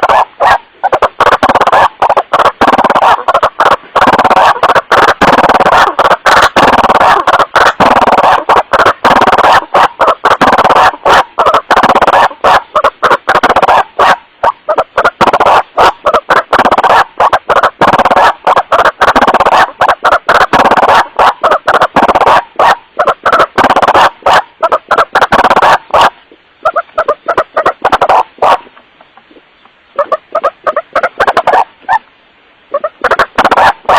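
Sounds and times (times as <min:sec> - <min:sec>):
waterhen calling wak-wak: 0:00.0 - 0:33.9.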